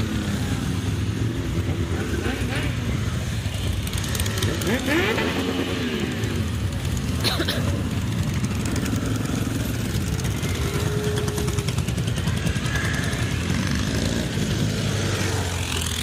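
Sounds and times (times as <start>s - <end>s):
motorcycles passing: 0.0s - 16.0s.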